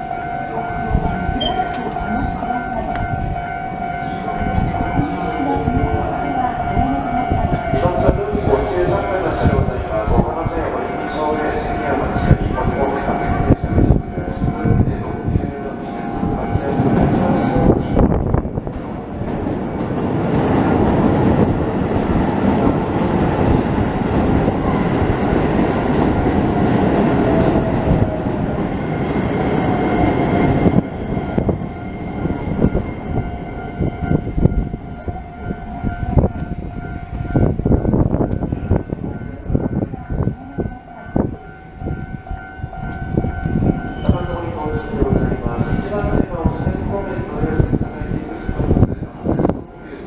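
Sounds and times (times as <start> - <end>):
crossing warning bell ringing: 0.0 - 18.6, 23.5 - 50.0
train rumbling over rails: 0.0 - 50.0.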